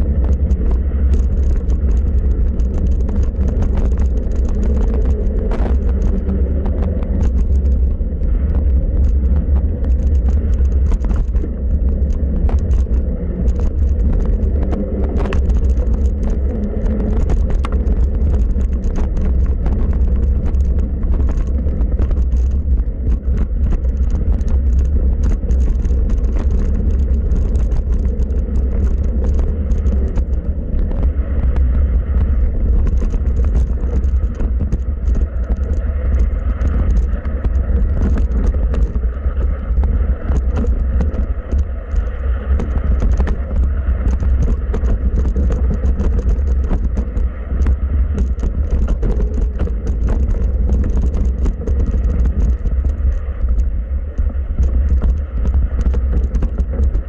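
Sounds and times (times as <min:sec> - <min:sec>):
bike rattling over rough trail: 0:00.0 - 0:57.0
wind buffeting microphone: 0:00.0 - 0:57.0.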